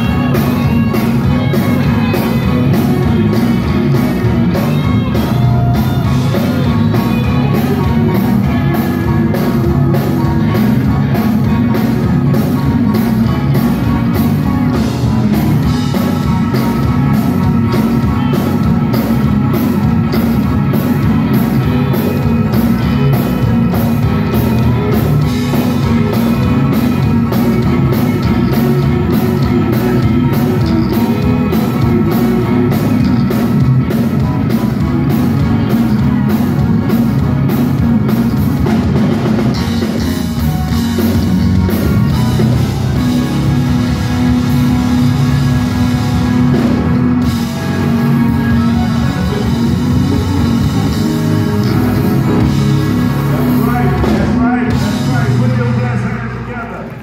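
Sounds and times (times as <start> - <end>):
bass guitar: 0.0 - 57.0
drum kit: 0.0 - 57.0
electric guitar lead: 0.0 - 57.0
keyboard: 0.0 - 57.0.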